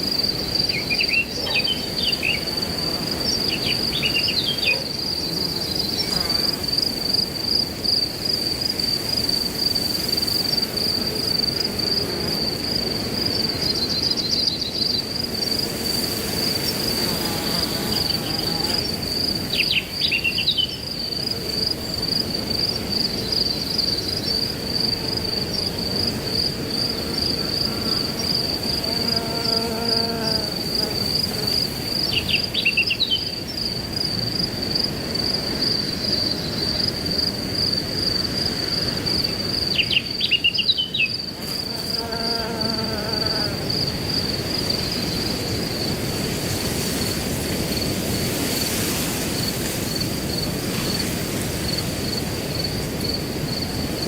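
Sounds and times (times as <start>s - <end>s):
crickets trilling: 0.0s - 54.0s
wind in grass: 0.0s - 54.0s.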